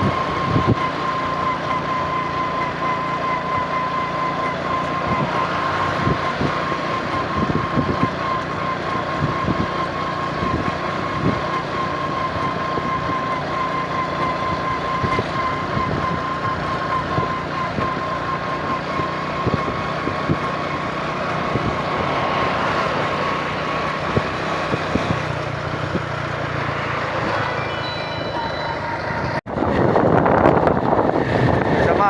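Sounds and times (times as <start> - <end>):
high whine: 0.0 - 32.0
vehicle engine and road noise: 0.0 - 32.0.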